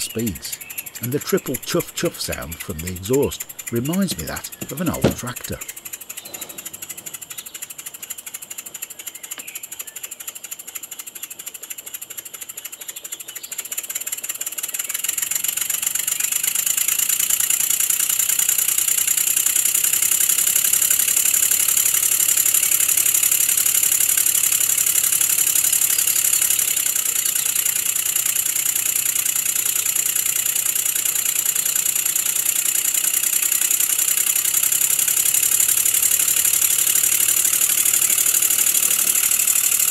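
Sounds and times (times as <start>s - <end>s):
model air engine chuffing: 0.0s - 39.9s.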